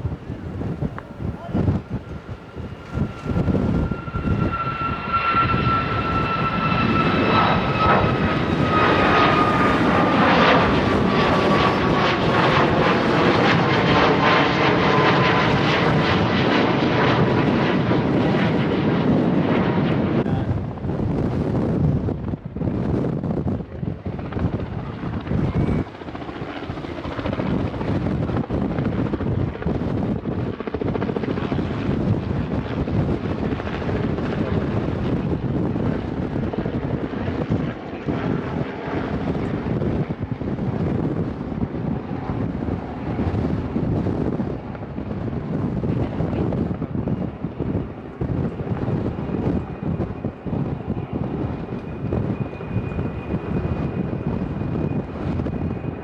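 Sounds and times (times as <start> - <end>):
jet airliner engine roar: 0.0 - 56.0
wind buffeting microphone: 0.0 - 56.0.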